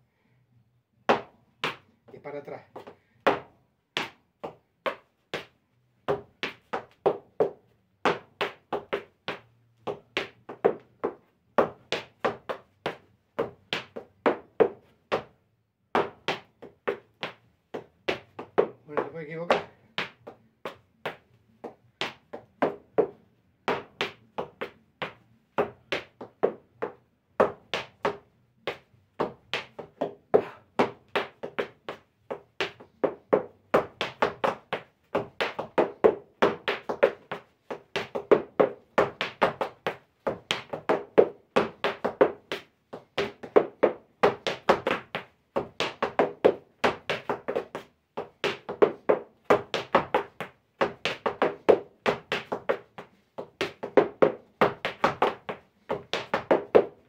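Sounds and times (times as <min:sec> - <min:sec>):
boot heels stamping on floor: 0:01.1 - 0:05.5, 0:06.1 - 0:15.3, 0:15.9 - 0:20.4, 0:21.0 - 0:57.0.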